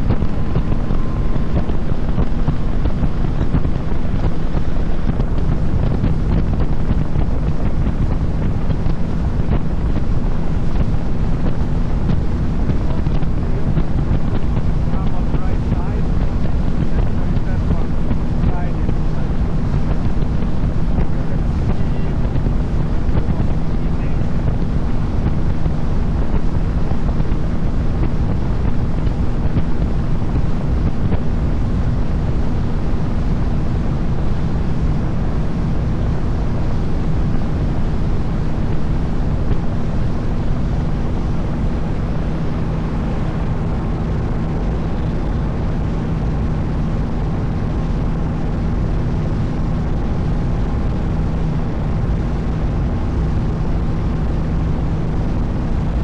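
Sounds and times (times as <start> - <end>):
boat engine humming: 0.0 - 56.0
wind on microphone: 0.0 - 56.0.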